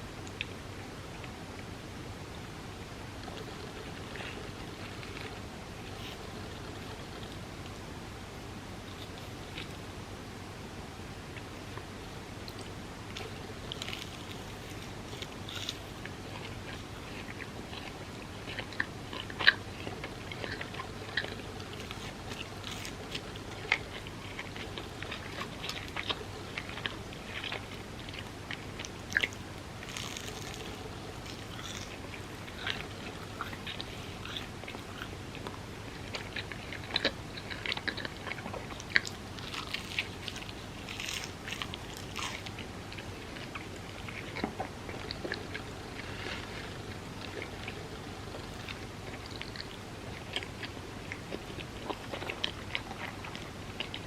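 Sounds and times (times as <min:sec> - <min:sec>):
faint low hum: 0:00.0 - 0:54.0
person chewing soft food: 0:02.4 - 0:07.9, 0:08.5 - 0:10.0, 0:11.3 - 0:54.0.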